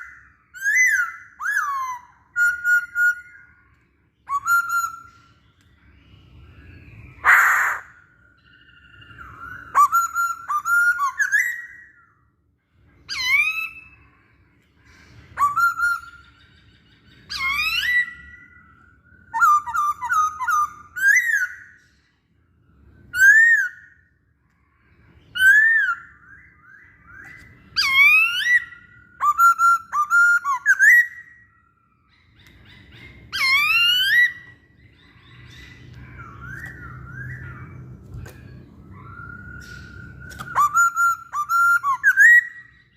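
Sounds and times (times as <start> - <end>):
laughingthrush whistled song: 0.0 - 12.3, 12.9 - 22.0, 22.8 - 24.1, 24.8 - 37.9, 38.5 - 42.9.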